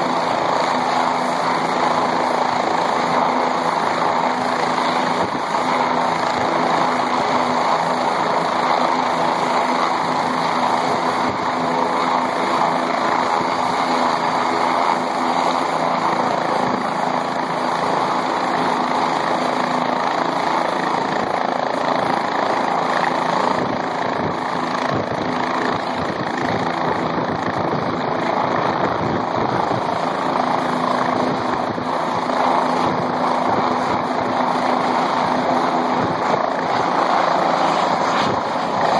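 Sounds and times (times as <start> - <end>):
helicopter turbine and rotor blades: 0.0 - 38.9.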